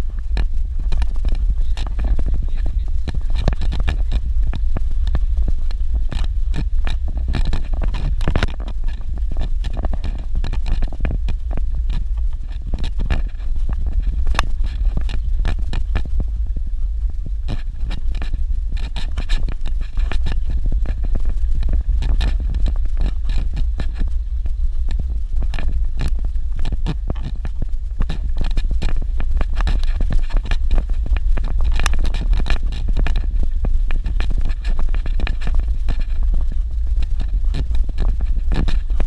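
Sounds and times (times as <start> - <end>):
car interior low rumble: 0.0 - 39.0.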